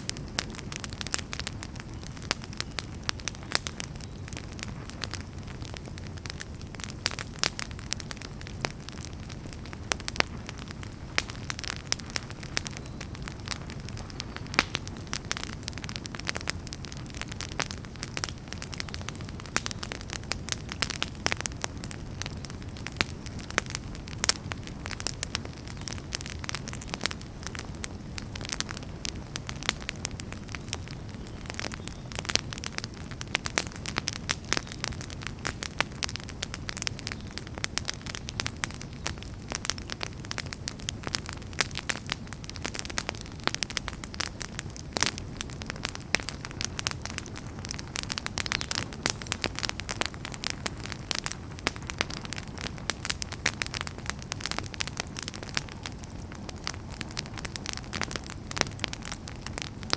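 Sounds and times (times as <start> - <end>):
fire rumbling: 0.0 - 59.9
firewood crackling and popping: 0.0 - 59.9.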